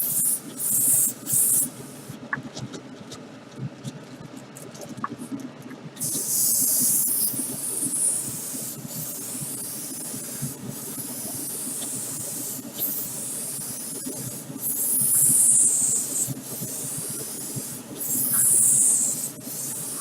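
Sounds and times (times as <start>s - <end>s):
spray can hissing: 0.0s - 2.1s, 6.0s - 20.0s.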